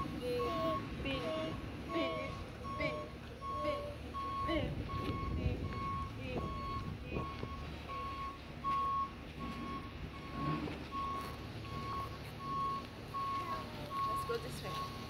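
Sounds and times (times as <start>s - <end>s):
truck engine running: 0.0s - 15.0s
truck reversing alarm beeping: 0.0s - 15.0s.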